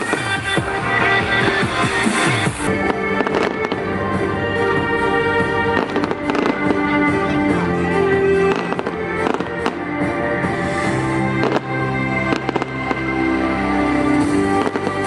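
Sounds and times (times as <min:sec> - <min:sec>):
fireworks bangs: 0:00.0 - 0:04.2, 0:05.6 - 0:13.2, 0:14.2 - 0:15.0
music: 0:00.0 - 0:15.0.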